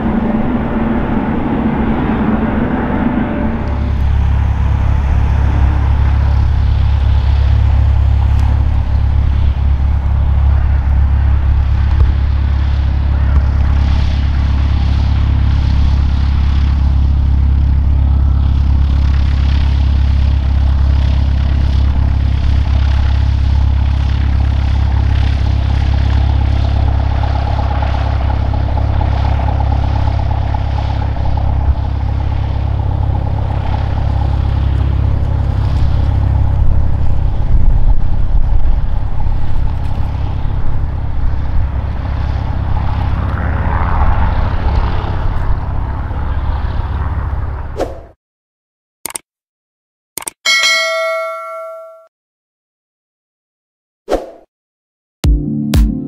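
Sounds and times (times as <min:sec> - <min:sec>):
propeller plane engine drone: 0:00.0 - 0:48.2.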